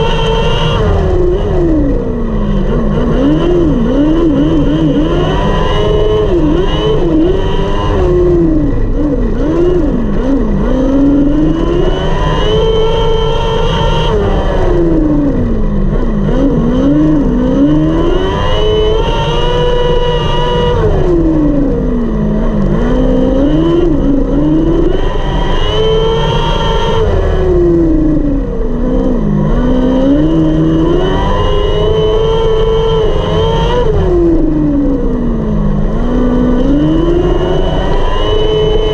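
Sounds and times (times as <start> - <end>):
motorcycle engine racing: 0.0 - 38.9.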